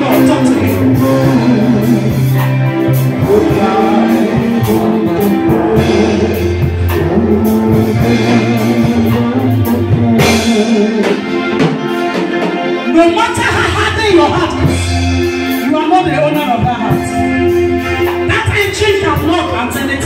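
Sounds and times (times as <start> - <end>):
drum kit beat: 0.0 - 20.0
sustained bass notes: 0.0 - 20.0.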